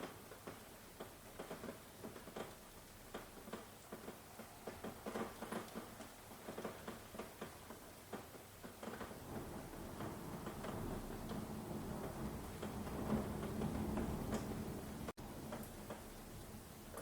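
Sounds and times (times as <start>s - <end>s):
rain hiss: 0.0s - 17.0s
raindrops tapping: 0.0s - 17.0s.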